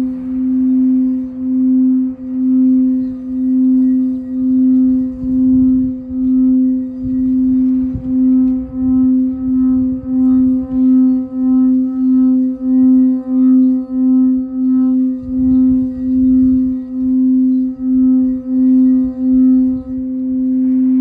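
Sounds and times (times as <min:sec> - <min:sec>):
mallet rubbing bowl rim: 0:00.0 - 0:21.0
singing bowl humming: 0:00.0 - 0:21.0.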